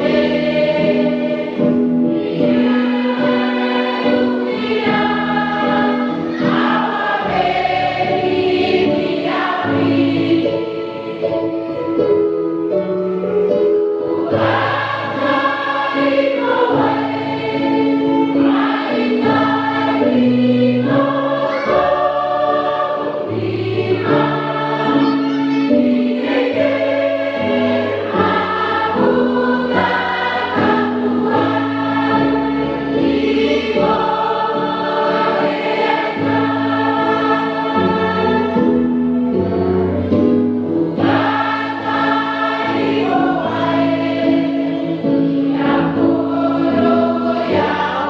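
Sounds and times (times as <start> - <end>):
choir singing: 0.0 - 13.4, 14.0 - 48.0.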